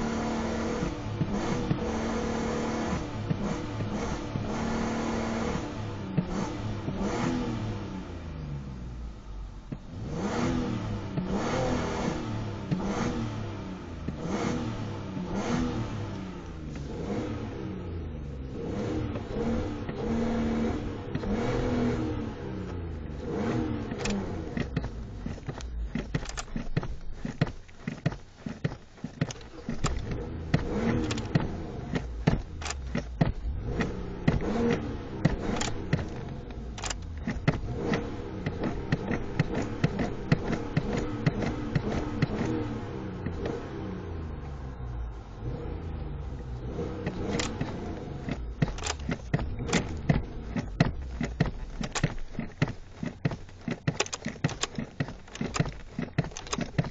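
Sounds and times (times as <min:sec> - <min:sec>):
car engine revving: 0:00.0 - 0:56.9.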